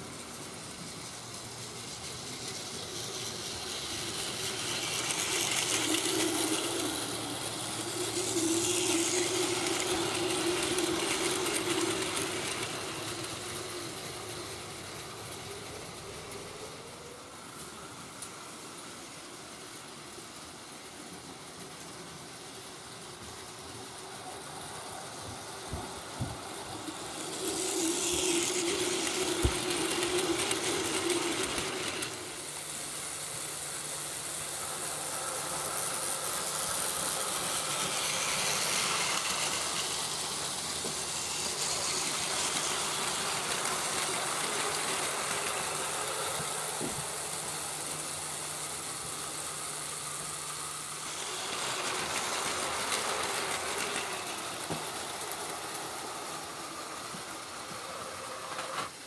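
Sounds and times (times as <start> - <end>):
toy train motor whir: 0.0 - 59.0
toy train wheels on rails: 0.0 - 59.0.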